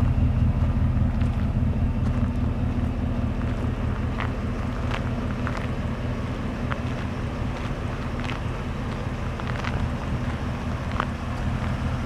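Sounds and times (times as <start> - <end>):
engine idling exhaust rumble: 0.0 - 12.0
footsteps on gravel: 0.0 - 12.0.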